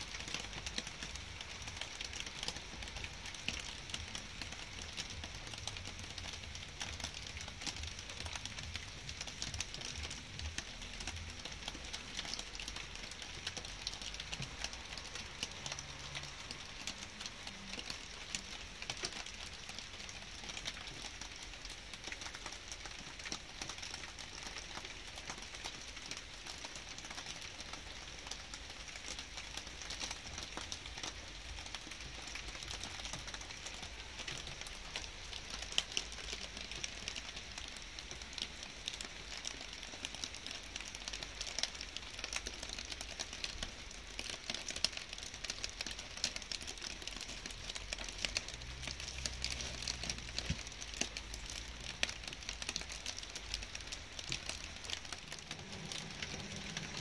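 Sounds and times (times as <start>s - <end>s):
light rain falling: 0.0s - 57.0s
raindrops ticking: 0.0s - 57.0s.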